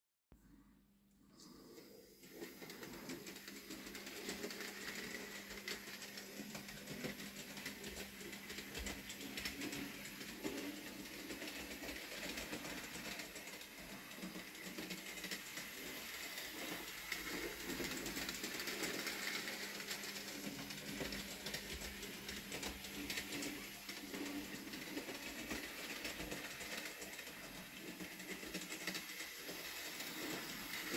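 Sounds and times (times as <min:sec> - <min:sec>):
model train motor whirring: 0:02.2 - 0:30.9
wheels clicking on track: 0:02.2 - 0:30.9.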